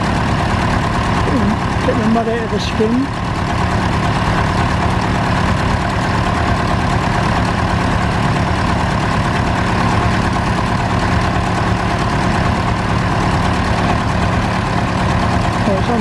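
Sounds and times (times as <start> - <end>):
tractor engine idling: 0.0 - 16.0.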